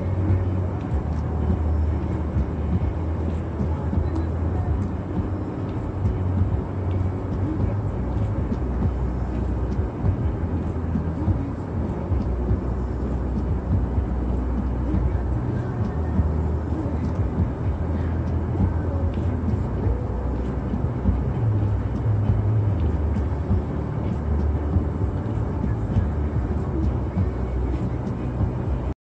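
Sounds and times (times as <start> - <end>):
car rumble from inside cabin: 0.0 - 29.0.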